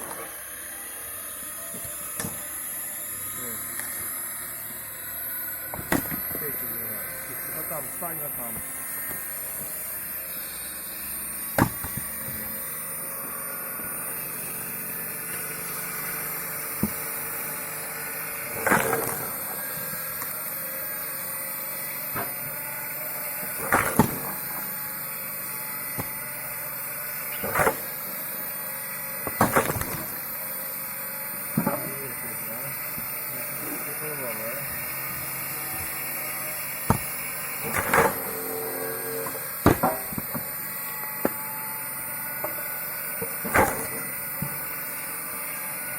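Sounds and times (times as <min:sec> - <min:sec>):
steady background hum: 0:00.0 - 0:45.9.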